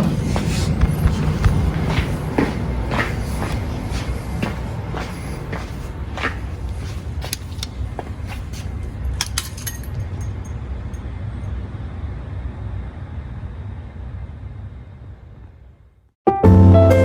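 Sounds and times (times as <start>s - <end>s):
low rumbling background noise: 0.0s - 16.1s.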